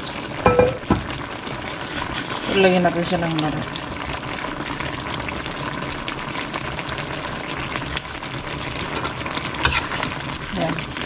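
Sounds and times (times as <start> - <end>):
sauce bubbling and sizzling: 0.0 - 11.0.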